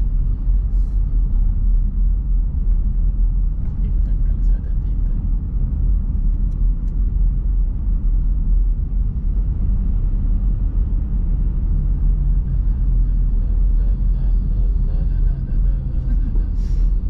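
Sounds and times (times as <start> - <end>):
car interior road and engine noise: 0.0 - 17.0.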